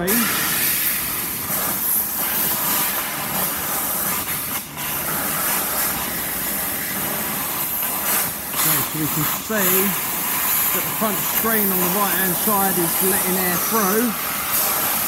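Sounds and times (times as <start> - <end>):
compressed air blow gun hissing: 0.0 - 15.0.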